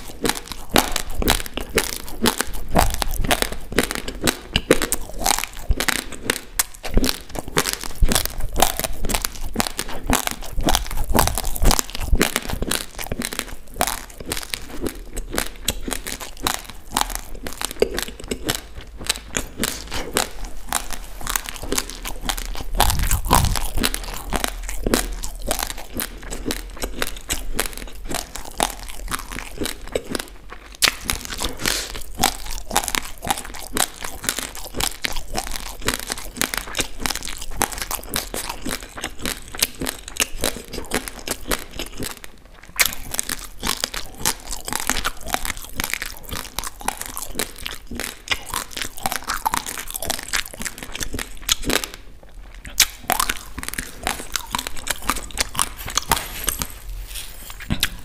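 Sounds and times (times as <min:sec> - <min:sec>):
chewing raw rice crunches: 0:00.0 - 0:58.0.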